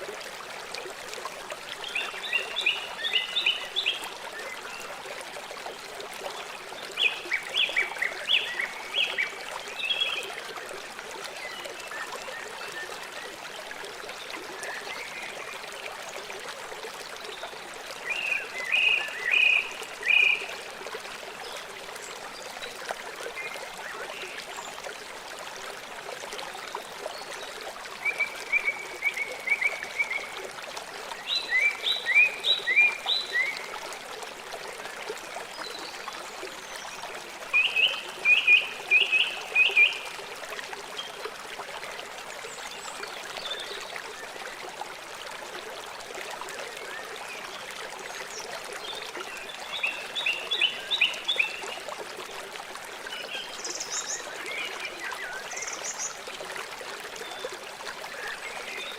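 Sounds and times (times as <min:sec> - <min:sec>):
river water running: 0:00.0 - 0:58.9.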